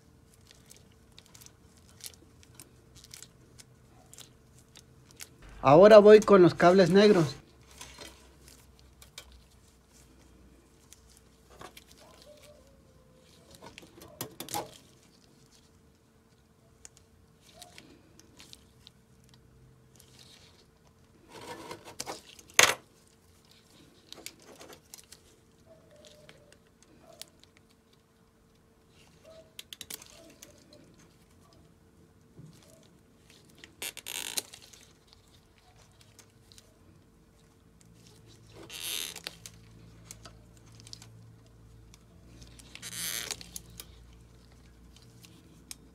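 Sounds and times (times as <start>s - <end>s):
wires and gloves rustling: 0.0s - 45.9s.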